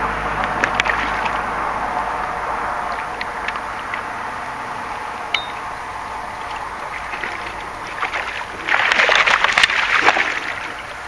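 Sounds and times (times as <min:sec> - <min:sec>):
steady background noise: 0:00.0 - 0:11.0
water splashing and sloshing: 0:00.0 - 0:11.0.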